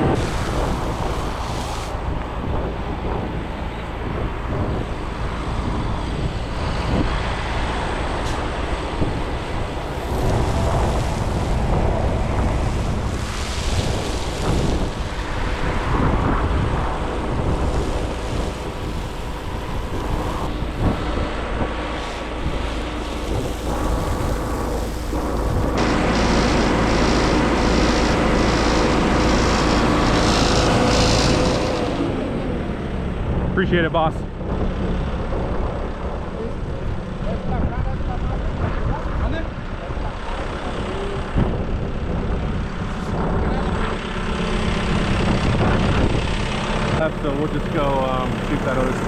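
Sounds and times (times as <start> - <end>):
engine running steadily: 0.0 - 49.0
wind buffeting microphone: 0.0 - 49.0.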